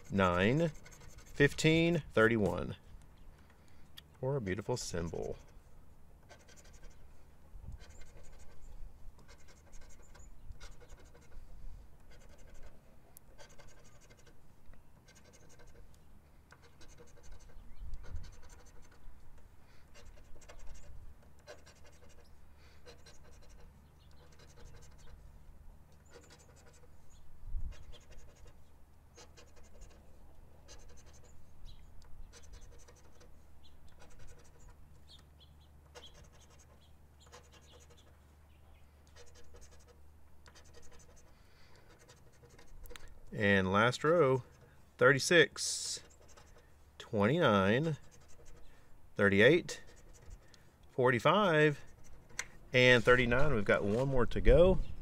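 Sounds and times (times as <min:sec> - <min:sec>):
lottery ticket being scratched: 0:00.0 - 0:02.8, 0:04.2 - 0:05.6, 0:06.2 - 0:07.0, 0:07.8 - 0:14.4, 0:15.0 - 0:15.9, 0:16.6 - 0:19.1, 0:19.9 - 0:25.2, 0:26.0 - 0:27.0, 0:27.7 - 0:31.5, 0:32.3 - 0:34.8, 0:35.9 - 0:38.1, 0:39.2 - 0:54.5.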